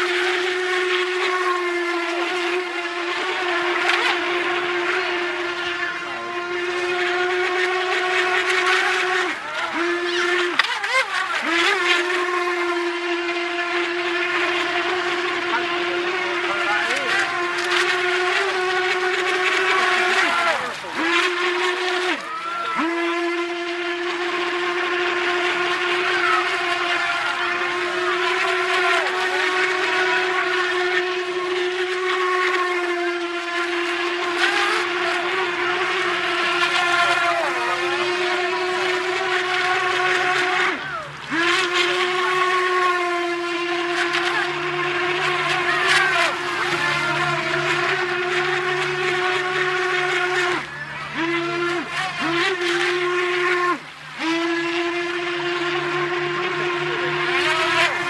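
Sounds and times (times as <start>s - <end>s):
model boat motor whine: 0.0s - 58.0s.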